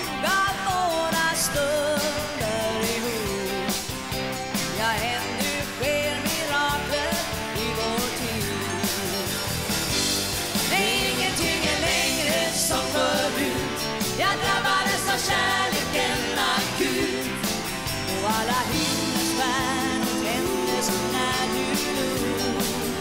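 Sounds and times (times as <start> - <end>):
drum kit: 0.0 - 23.0
guitars: 0.0 - 23.0.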